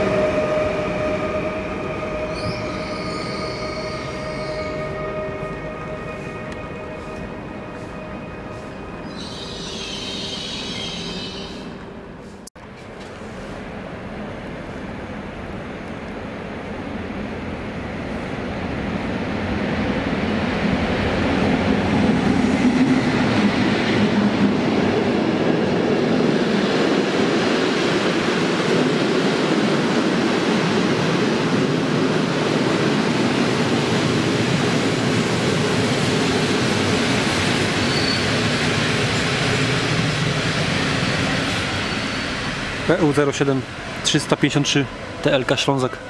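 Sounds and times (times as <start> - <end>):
train passing: 0.0 - 46.0.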